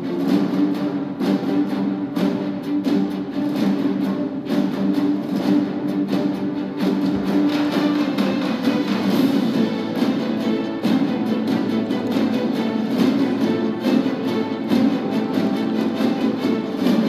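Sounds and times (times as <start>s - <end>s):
orchestral film music: 0.0s - 17.0s.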